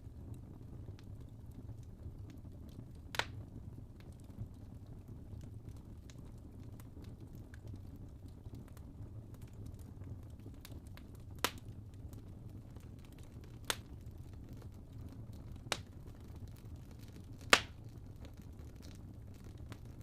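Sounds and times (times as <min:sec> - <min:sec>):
low rumble of flames: 0:00.0 - 0:20.0
sharp crackles of logs: 0:00.3 - 0:20.0.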